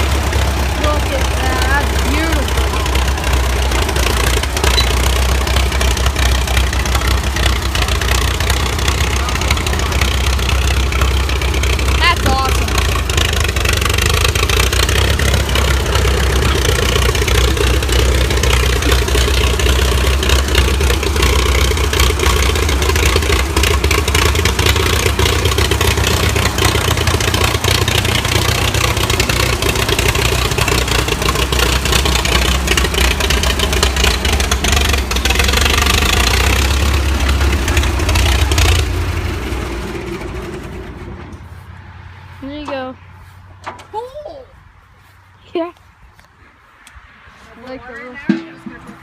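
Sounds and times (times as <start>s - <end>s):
bulldozer engine clattering: 0.0s - 44.6s, 47.6s - 49.0s.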